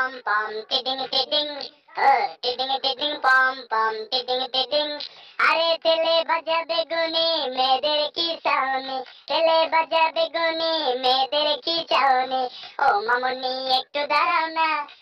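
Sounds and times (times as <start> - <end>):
child-like voice singing a chant: 0.0 - 15.0.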